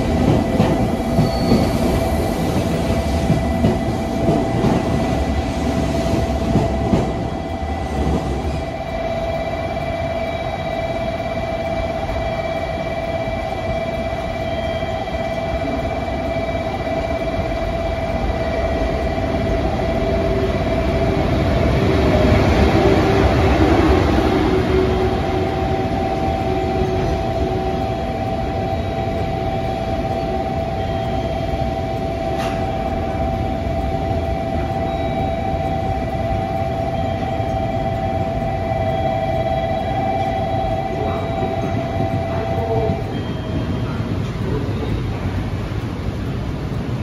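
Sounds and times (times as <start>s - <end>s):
freight train rumbling past: 0.0s - 47.0s.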